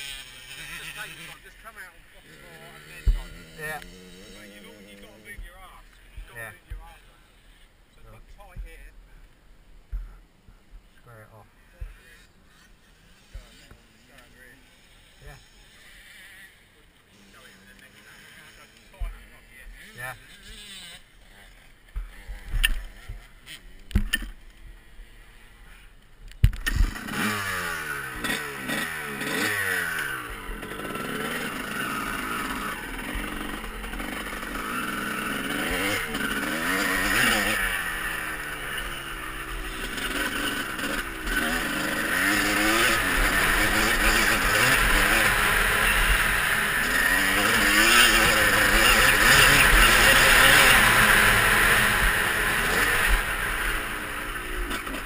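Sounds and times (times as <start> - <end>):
motocross bike engine revving: 0.0 - 8.8, 11.1 - 55.0.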